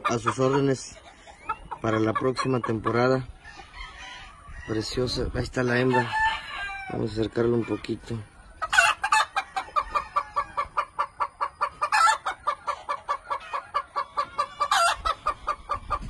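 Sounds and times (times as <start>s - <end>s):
loud chicken calls: 0.0s - 5.0s, 5.6s - 7.5s, 8.4s - 16.0s
chickens clucking: 0.0s - 16.0s.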